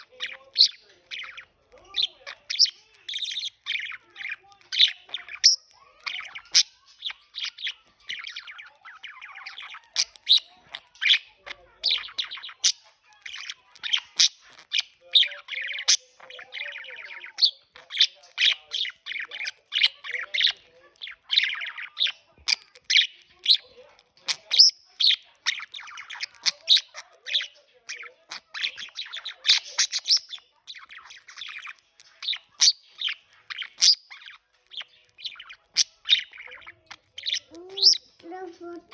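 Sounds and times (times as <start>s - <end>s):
budgerigar chirping and warbling: 0.0s - 38.9s.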